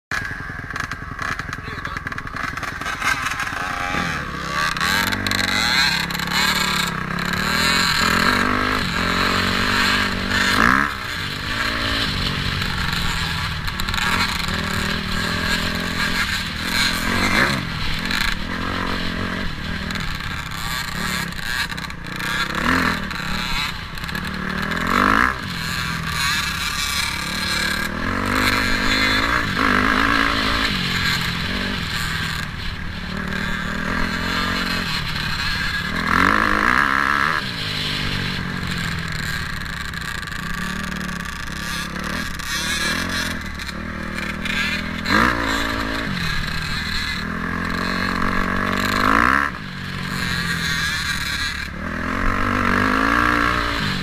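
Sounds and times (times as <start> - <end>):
dirt bike engine revving: 0.1 - 54.0.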